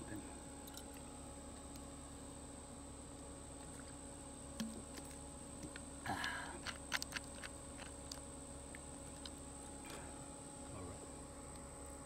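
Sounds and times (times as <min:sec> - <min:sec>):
insect chirring: 0:00.0 - 0:11.1.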